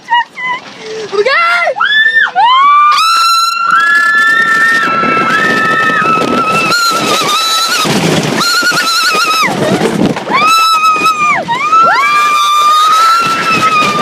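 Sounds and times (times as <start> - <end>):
roller coaster rumble: 0.0 - 14.0
riders screaming: 1.3 - 14.0.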